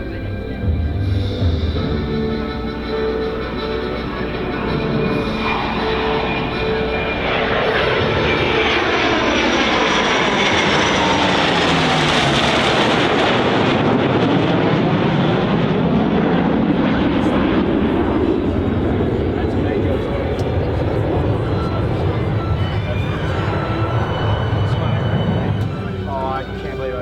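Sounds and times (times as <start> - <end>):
jet engines passing: 0.0 - 27.0.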